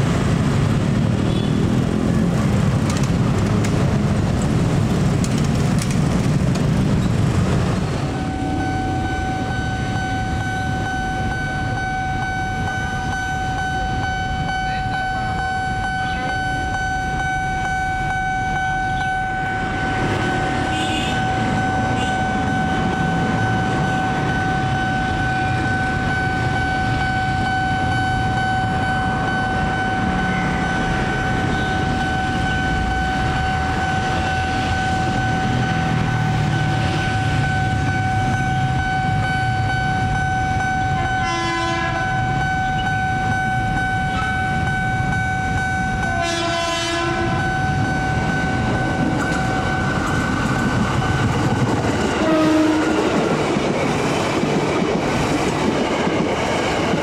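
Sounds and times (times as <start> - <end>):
electric train rumble: 0.0 - 57.0
high-pitched tone: 7.7 - 54.2.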